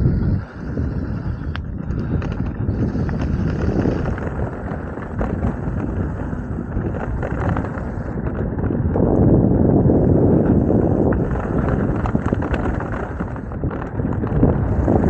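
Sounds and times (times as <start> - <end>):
bike rattling and knocking: 0.0 - 15.0
bike tyres rolling on dirt: 0.0 - 15.0
wind rumble on microphone: 0.0 - 15.0.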